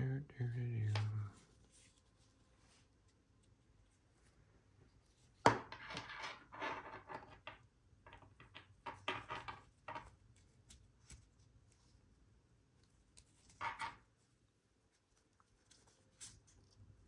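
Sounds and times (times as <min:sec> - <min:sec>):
rustling and scraping of handling: 0:00.4 - 0:17.0.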